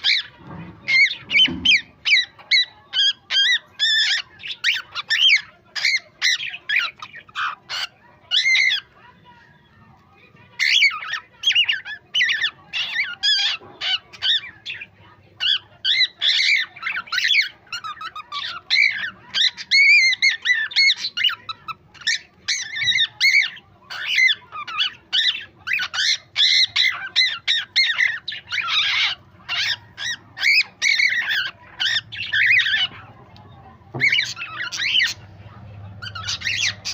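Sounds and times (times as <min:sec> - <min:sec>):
cockatiel squawking and chirping: 0:00.0 - 0:09.4, 0:10.4 - 0:36.9.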